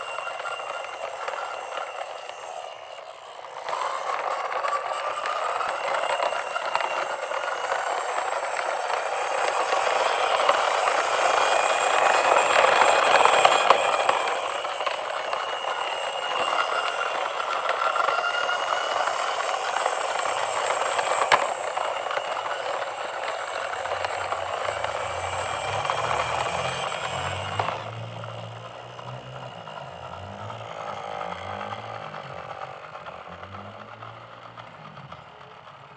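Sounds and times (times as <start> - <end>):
toy motor and gears rattling: 0.0 - 35.9.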